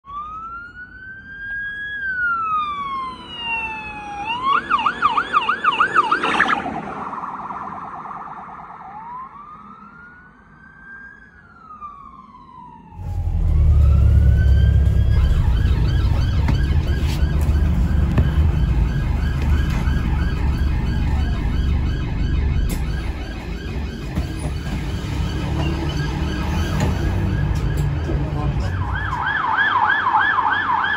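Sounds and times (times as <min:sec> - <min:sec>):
police siren wailing and yelping: 0:00.0 - 0:30.9
low rumble of traffic: 0:00.1 - 0:30.9.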